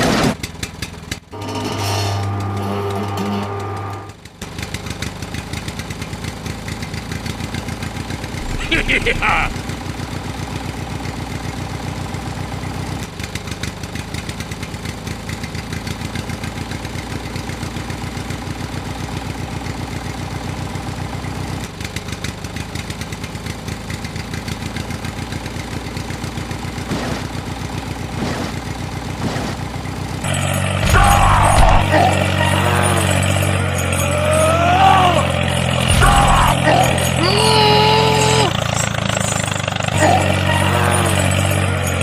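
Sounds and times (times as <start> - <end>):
small tractor engine idling: 4.2 - 42.0.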